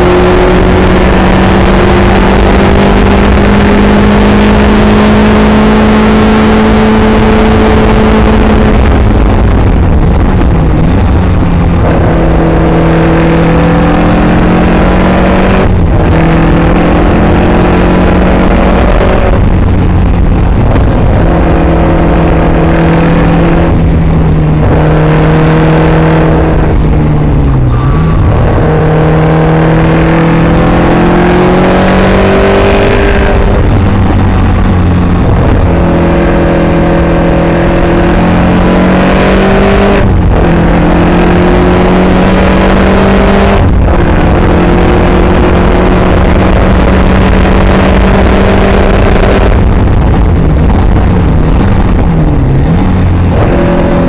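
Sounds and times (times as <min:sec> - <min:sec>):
car engine accelerating: 0:00.0 - 0:54.0
low wind rumble: 0:00.0 - 0:54.0.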